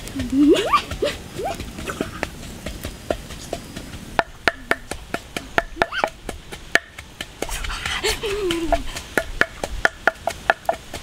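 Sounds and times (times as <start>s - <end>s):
twig fire crackling: 0.0s - 11.0s.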